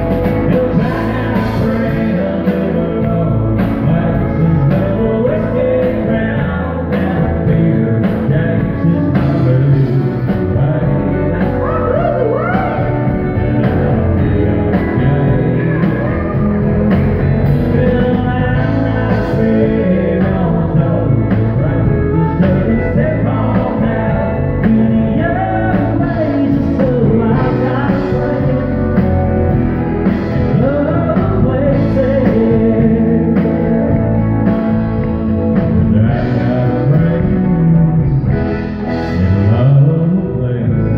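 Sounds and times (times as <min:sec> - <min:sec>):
country band playing: 0:00.0 - 0:40.9
man singing: 0:00.0 - 0:40.9.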